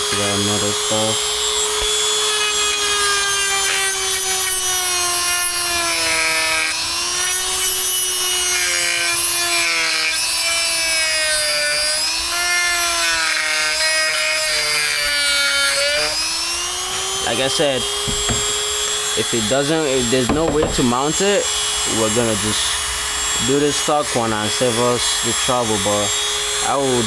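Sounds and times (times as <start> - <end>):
rotary tool cutting plastic: 0.0 - 27.0.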